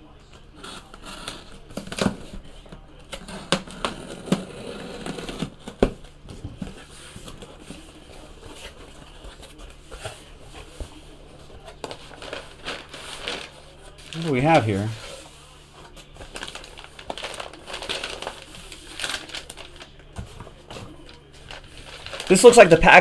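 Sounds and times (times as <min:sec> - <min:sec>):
cardboard rustling: 0:00.3 - 0:23.0.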